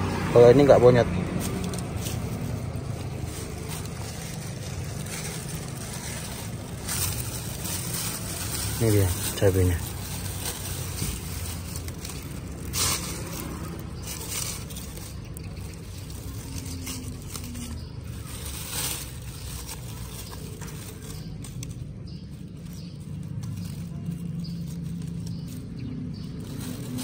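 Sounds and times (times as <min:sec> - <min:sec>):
chillies rustling and scraping: 0:00.4 - 0:27.0.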